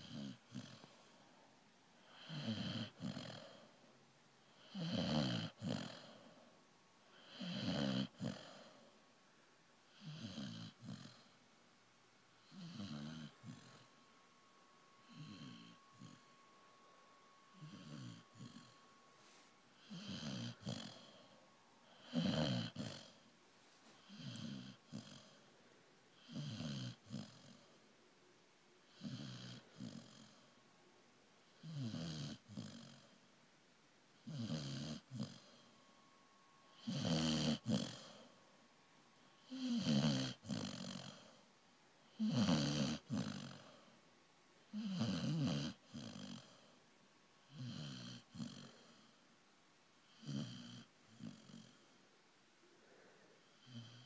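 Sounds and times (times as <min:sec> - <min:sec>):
dog snoring: 0:00.0 - 0:01.2, 0:02.0 - 0:03.8, 0:04.4 - 0:09.0, 0:09.9 - 0:11.4, 0:12.3 - 0:25.5, 0:26.1 - 0:27.8, 0:28.8 - 0:30.6, 0:31.4 - 0:33.3, 0:34.2 - 0:38.4, 0:39.2 - 0:44.0, 0:44.6 - 0:46.8, 0:47.4 - 0:49.2, 0:50.0 - 0:52.0, 0:53.0 - 0:54.0.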